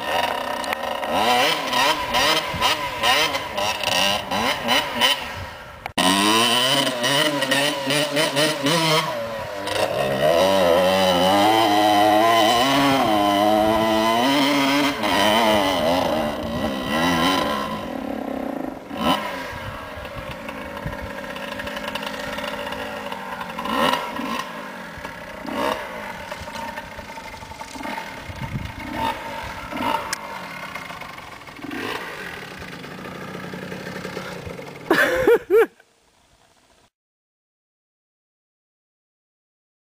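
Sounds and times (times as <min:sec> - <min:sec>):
dirt bike engine revving: 0:00.0 - 0:35.7.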